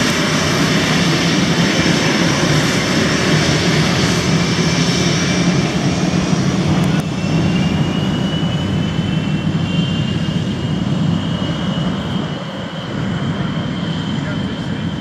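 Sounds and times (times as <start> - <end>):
jet engines at taxi power: 0.0 - 15.0.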